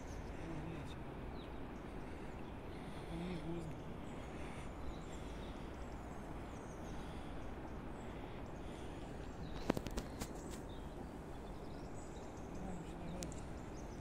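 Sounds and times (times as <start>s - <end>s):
faint bird chirps: 0.0s - 14.0s
outdoor background noise: 0.0s - 14.0s.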